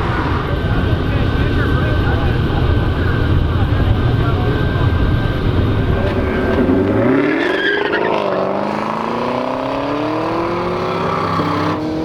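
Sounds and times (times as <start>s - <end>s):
drag racing car accelerating: 0.0s - 12.0s.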